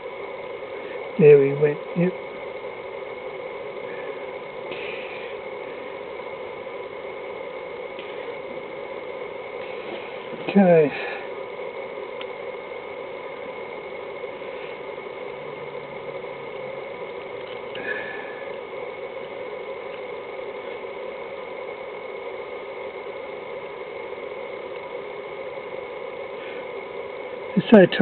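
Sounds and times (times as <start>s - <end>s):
machine humming: 0.0s - 28.0s
thin high whine: 0.0s - 28.0s.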